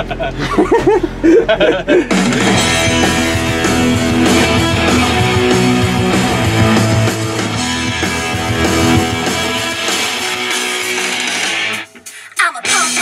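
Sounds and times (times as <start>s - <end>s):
loud rock music with heavy bass: 0.0s - 13.0s.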